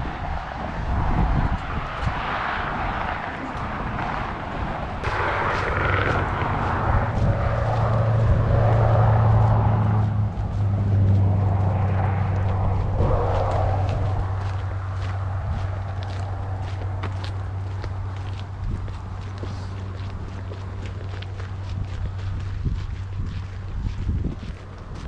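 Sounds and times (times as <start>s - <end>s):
vehicle engine passing: 0.0s - 25.0s
wind noise on microphone: 0.0s - 25.0s.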